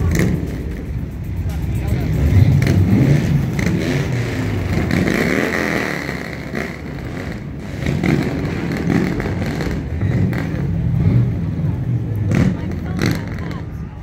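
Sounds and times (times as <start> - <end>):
passing vehicle engines rumbling: 0.0 - 14.0.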